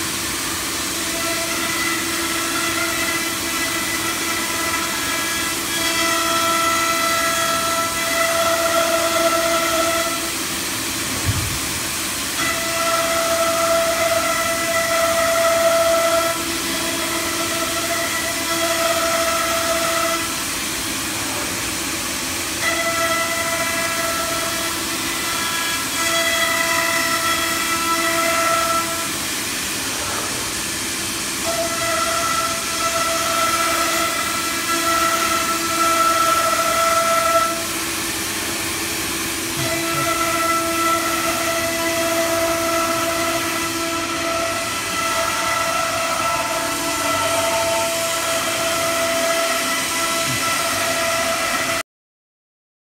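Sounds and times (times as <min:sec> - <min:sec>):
router spindle whine: 0:00.0 - 0:51.8.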